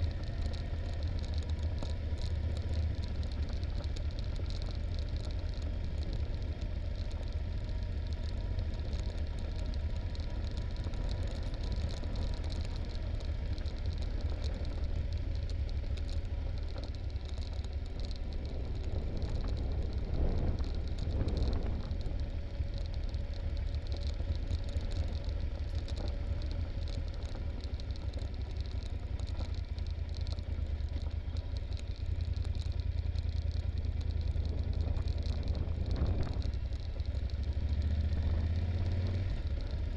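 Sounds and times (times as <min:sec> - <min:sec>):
motorcycle engine low rumble: 0:00.0 - 0:39.9.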